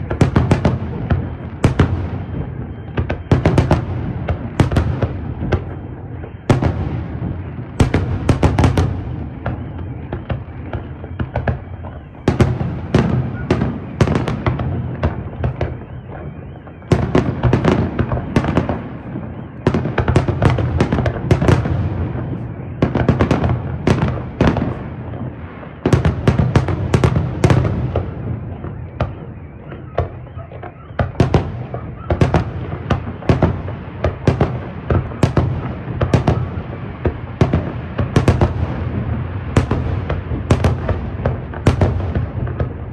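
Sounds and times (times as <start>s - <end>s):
fireworks bursting with bangs: 0.0s - 42.9s.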